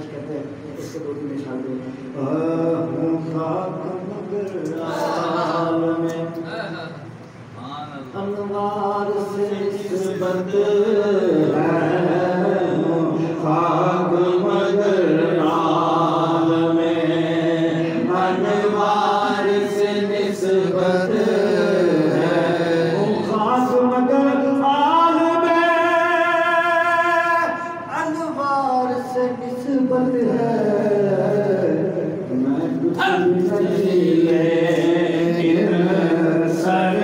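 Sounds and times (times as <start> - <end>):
man chanting into a microphone: 0.0 - 7.0, 7.6 - 37.0.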